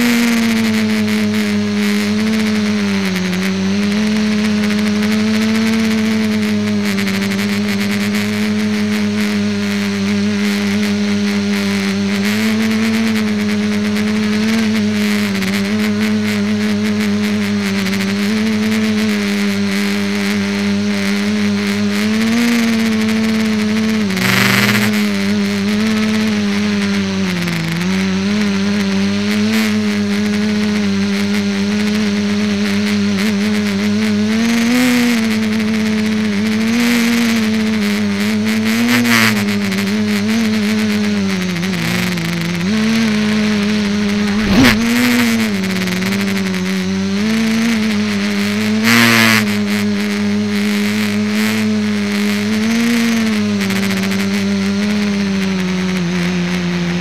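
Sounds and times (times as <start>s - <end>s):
multicopter motors buzzing: 0.0s - 57.0s.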